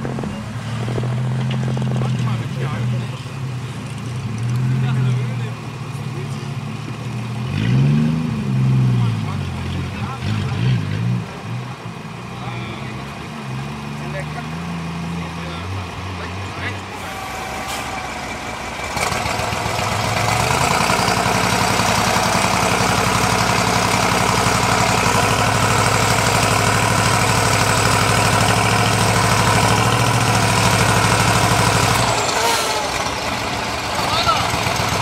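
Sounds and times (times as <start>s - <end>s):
diesel truck engine revving: 0.0s - 35.0s.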